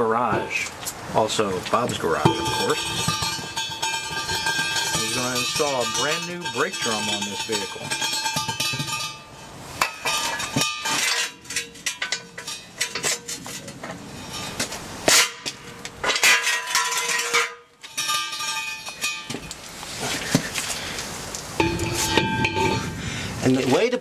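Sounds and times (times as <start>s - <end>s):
metal brake drum clanking: 1.8s - 19.5s, 21.6s - 23.2s.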